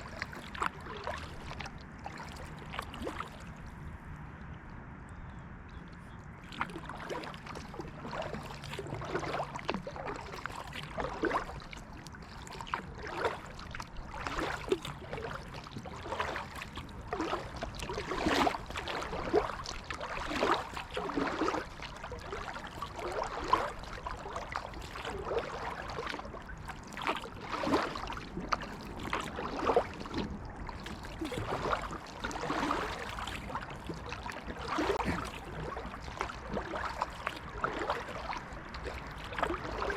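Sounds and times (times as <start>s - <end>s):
paddle splashing in water: 0.0s - 4.1s, 5.8s - 39.9s.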